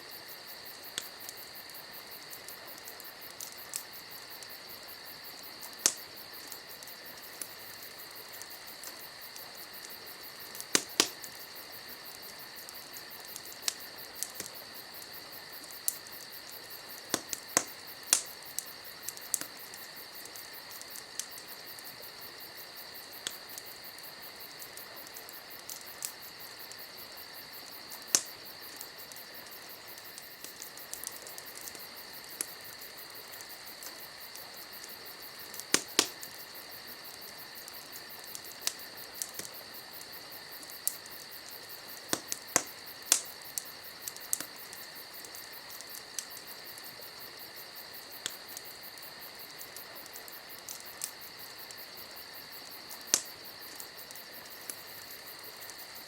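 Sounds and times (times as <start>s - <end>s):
campfire crackling and popping: 0.0s - 56.0s
crickets chirring: 0.0s - 56.0s.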